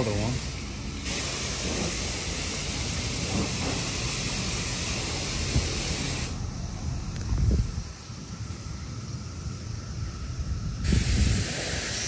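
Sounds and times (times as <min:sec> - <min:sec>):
cicada chorus drone: 0:00.0 - 0:12.0.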